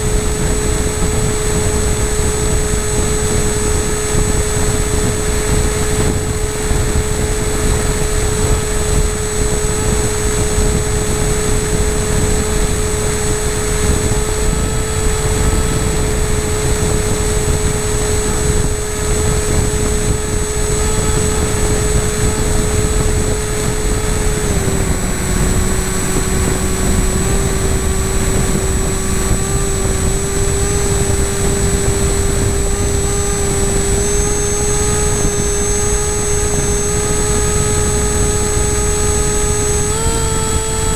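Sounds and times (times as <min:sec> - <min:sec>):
model aircraft motor whine: 0:00.0 - 0:40.9
wind noise: 0:00.0 - 0:40.9.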